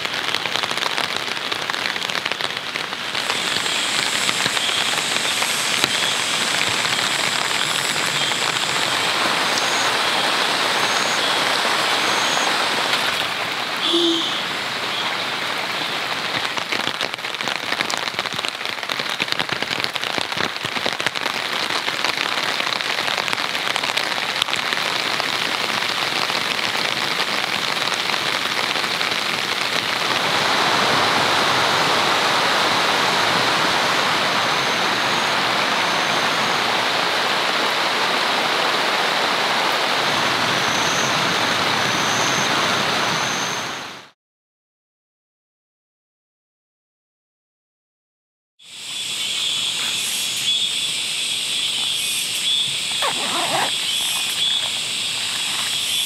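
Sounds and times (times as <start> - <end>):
heavy rain falling: 0.0 - 44.1, 49.0 - 56.0.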